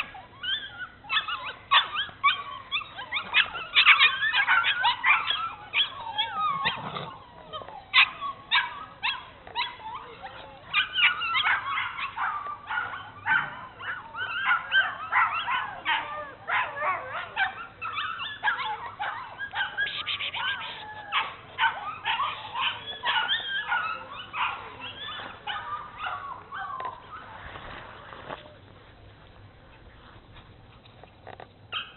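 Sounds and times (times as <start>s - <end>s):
puppies yipping and whining: 0.0s - 27.8s, 30.7s - 31.9s.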